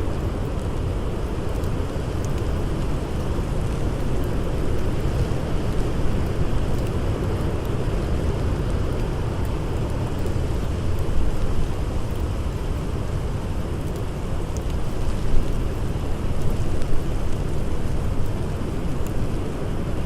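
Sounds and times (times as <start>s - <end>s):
blizzard wind roaring: 0.0s - 20.0s
faint campfire crackles: 0.0s - 20.0s.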